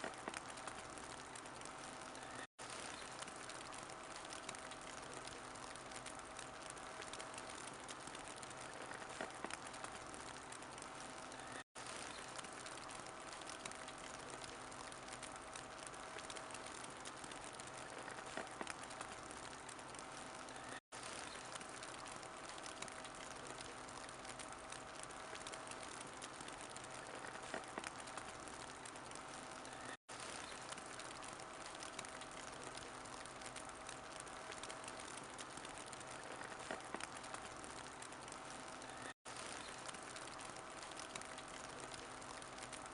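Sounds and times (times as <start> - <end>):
wood fire hissing and crackling: 0.0 - 42.9.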